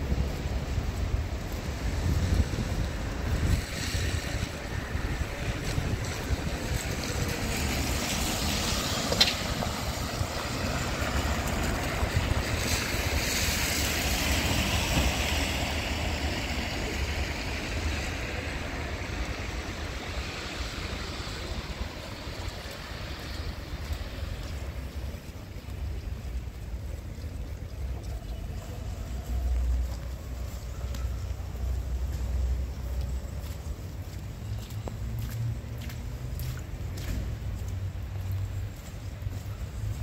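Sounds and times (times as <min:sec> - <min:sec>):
tyres hissing on wet asphalt: 0:00.0 - 0:40.0
wind rumble on microphone: 0:00.0 - 0:40.0.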